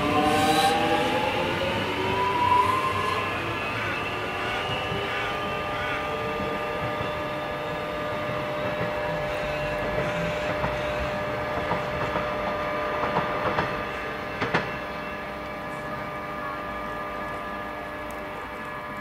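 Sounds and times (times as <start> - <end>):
train wheels clicking over track: 0.0 - 16.4
electric train whine: 0.0 - 19.0.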